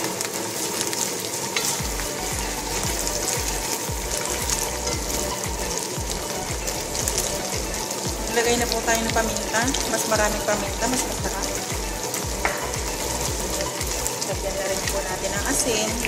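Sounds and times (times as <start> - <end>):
food sizzling in hot oil: 0.0 - 16.0
wooden spoon stirring: 0.0 - 16.0.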